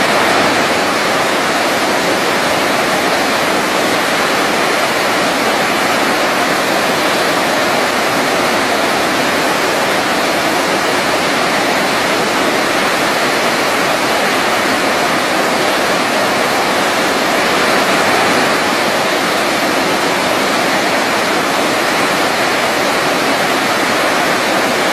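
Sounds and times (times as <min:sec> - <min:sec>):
waterfall roaring: 0:00.0 - 0:24.9.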